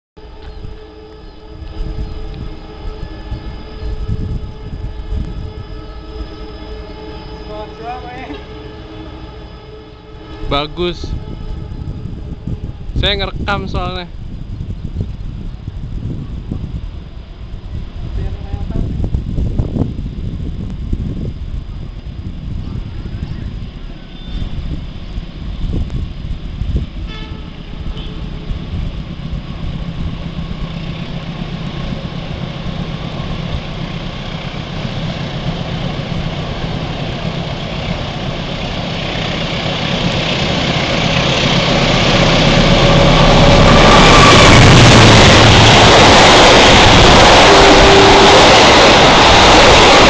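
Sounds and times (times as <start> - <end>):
locomotive engine humming: 0.2 - 50.0
train rumbling over bridge: 0.2 - 50.0.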